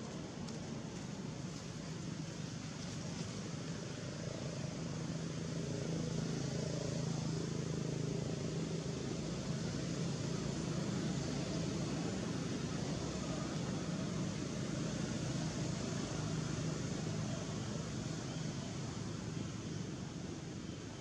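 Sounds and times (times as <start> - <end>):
engine hum: 0.0 - 21.0.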